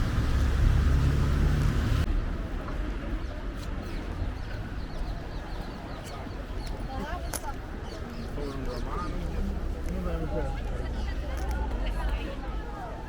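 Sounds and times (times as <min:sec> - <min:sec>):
low engine rumble: 0:00.0 - 0:13.0
street background: 0:00.0 - 0:13.0.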